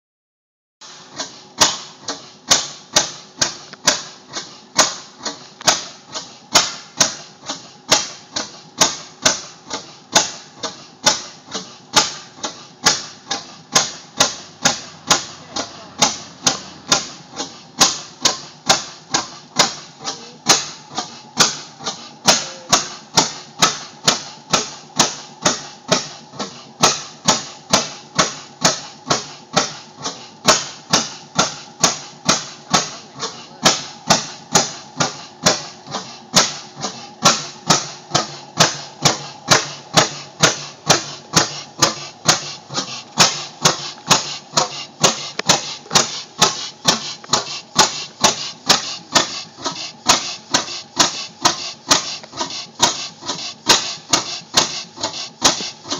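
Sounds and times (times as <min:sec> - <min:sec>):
oil field engine firing beats: 0:00.8 - 0:55.9.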